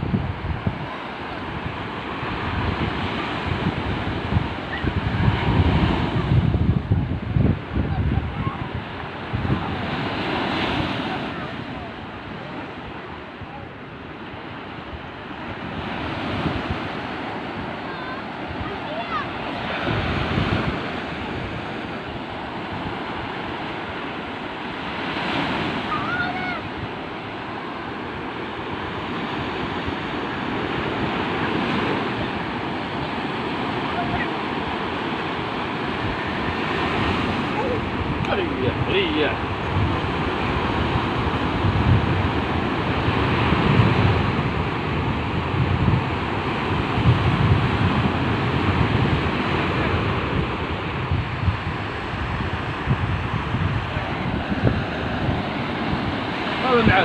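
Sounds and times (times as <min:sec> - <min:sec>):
sea waves breaking on shore: 0:00.0 - 0:57.0
wind buffeting microphone: 0:00.0 - 0:57.0.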